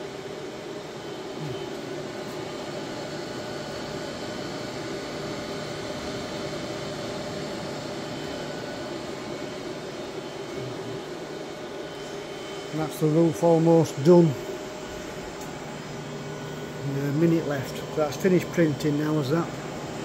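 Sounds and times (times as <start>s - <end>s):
printer whirring hum: 0.0s - 20.0s.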